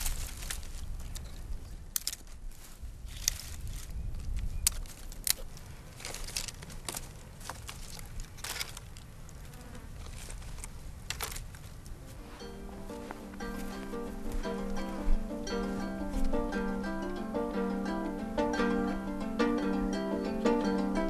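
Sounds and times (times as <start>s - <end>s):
dry sticks snapping and rustling: 0.0s - 9.4s, 10.0s - 18.2s.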